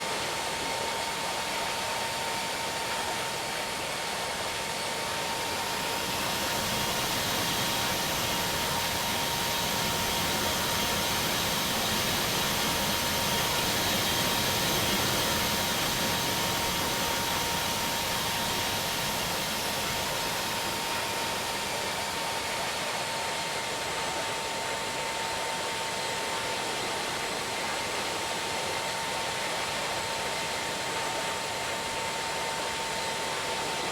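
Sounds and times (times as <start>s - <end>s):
jet engines rushing with whine: 0.0s - 33.9s.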